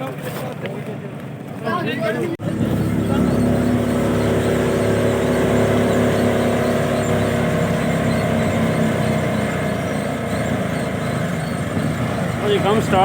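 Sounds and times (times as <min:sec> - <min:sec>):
thresher machine running: 0:02.4 - 0:13.0.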